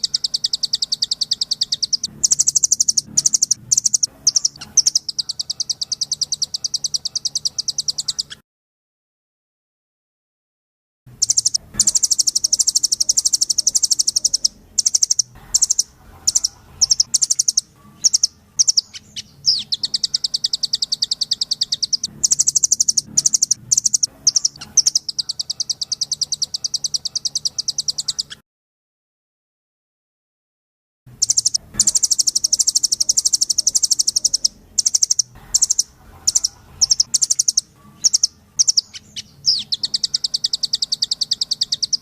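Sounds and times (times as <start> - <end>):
songbird trilling: 0.0 - 8.4, 11.2 - 28.4, 31.2 - 42.0.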